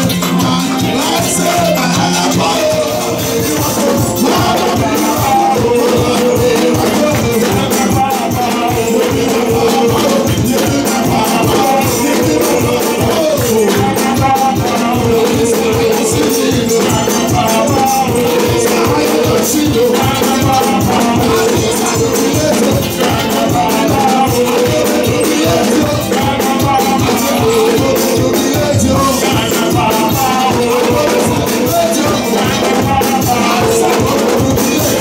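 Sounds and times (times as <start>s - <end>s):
upbeat worship music: 0.0s - 35.0s.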